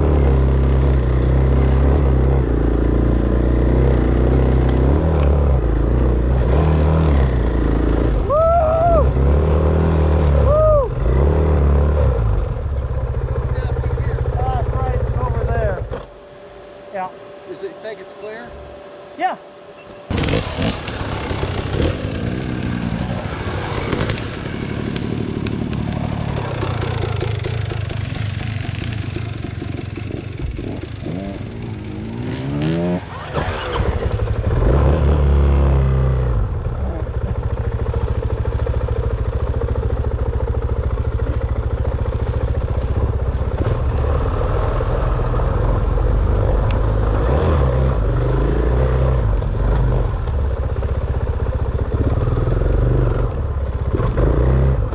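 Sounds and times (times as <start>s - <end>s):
dirt bike engine revving: 0.0s - 19.1s, 19.7s - 50.3s, 51.7s - 54.9s.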